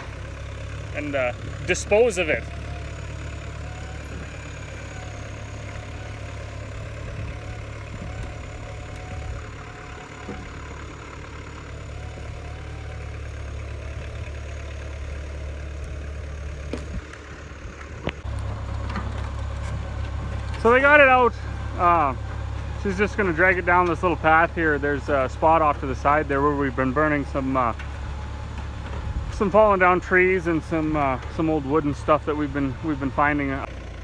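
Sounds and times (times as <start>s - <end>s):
backhoe engine running: 0.0s - 34.0s.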